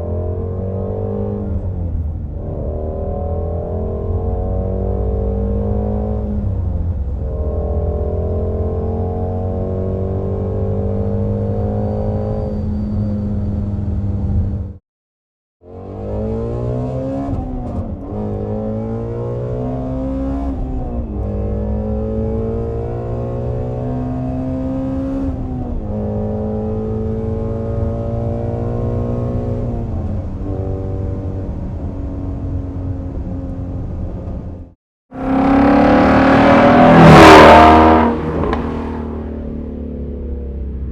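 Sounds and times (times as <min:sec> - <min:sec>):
car engine revving through gears: 0:00.0 - 0:14.7, 0:15.6 - 0:40.9.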